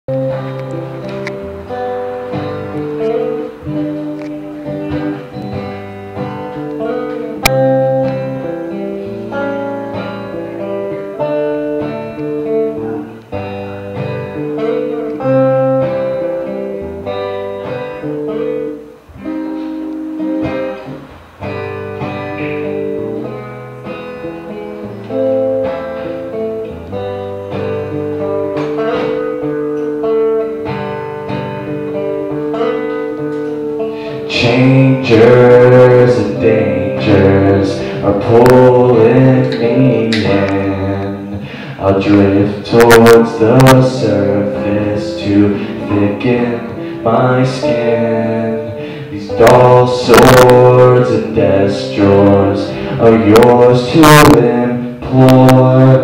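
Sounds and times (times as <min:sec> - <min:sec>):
acoustic guitar chords: 0:00.1 - 0:56.0.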